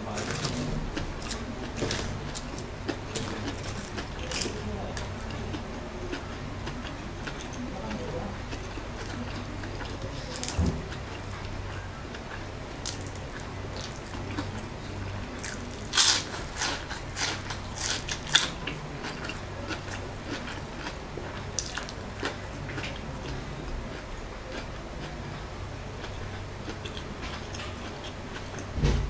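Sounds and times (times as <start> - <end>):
crisp crunches of chewing: 0.1 - 7.6, 8.6 - 14.7, 15.3 - 25.2.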